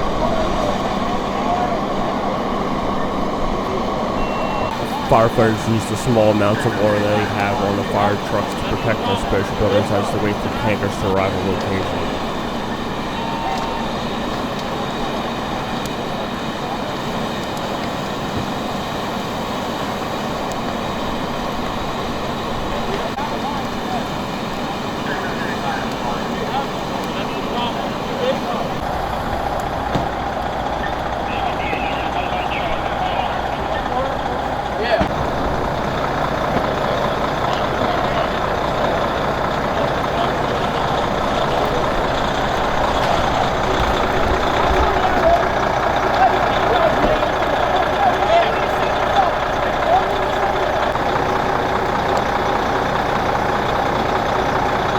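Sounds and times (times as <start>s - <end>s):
fire truck engines running: 0.0s - 54.9s.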